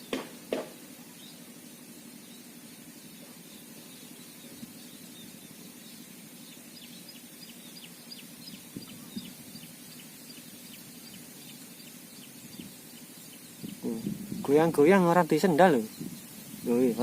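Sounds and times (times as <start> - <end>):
small bird chirping: 0.0 - 17.0
steady low hum: 0.0 - 17.0.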